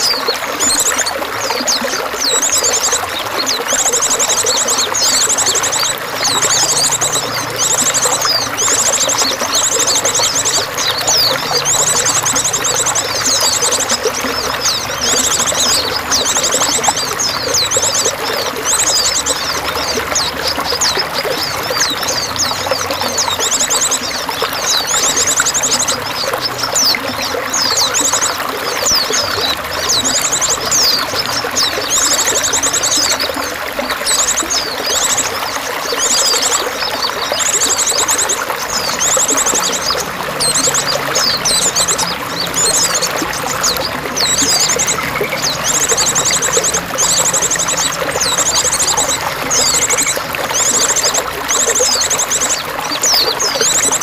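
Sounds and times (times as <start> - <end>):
small birds chirping: 0.0 - 54.0
trickling running water: 0.0 - 54.0.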